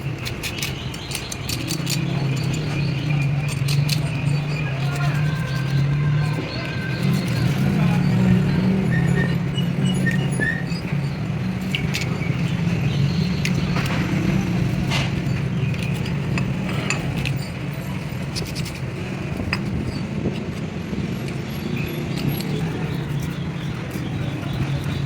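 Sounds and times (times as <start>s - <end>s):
light metallic clicks and clinks: 0.0s - 6.0s, 8.9s - 25.0s.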